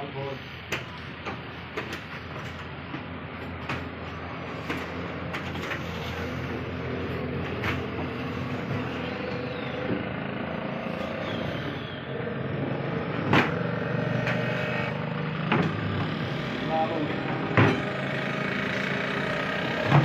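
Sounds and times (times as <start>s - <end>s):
steady engine drone: 0.0s - 20.0s.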